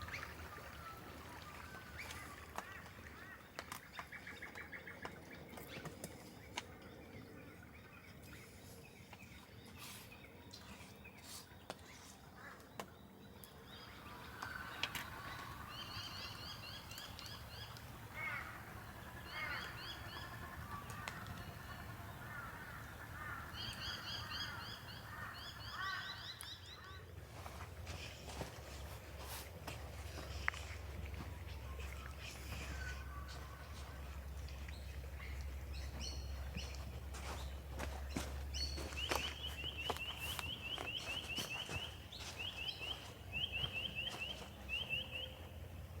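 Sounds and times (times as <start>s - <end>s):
low warbling bird calls: 0.0s - 8.7s, 13.5s - 46.0s.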